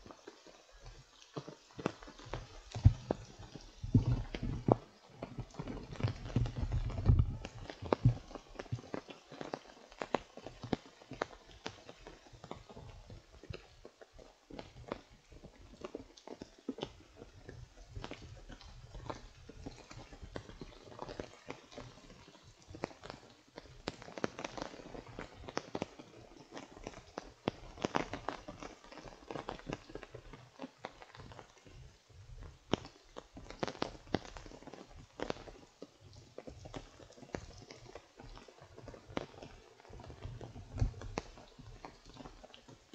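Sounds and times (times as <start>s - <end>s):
raindrops tapping on umbrella: 0.0s - 42.9s.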